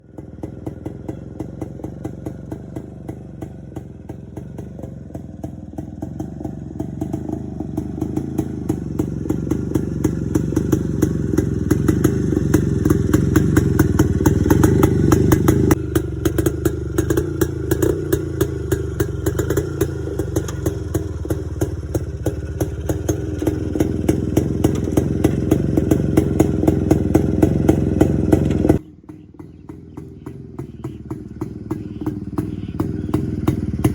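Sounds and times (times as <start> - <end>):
motorcycle engine exhaust beats: 0.0 - 33.9.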